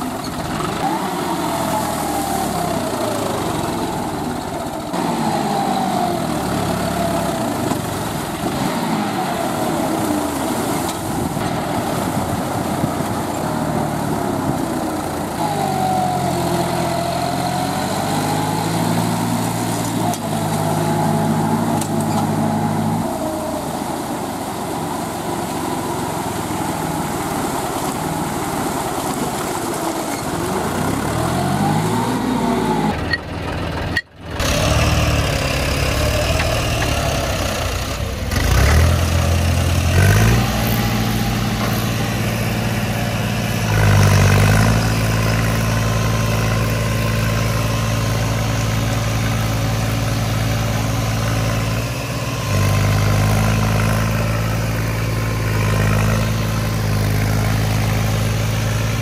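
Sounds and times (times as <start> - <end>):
tractor engine straining under load: 0.0 - 59.0.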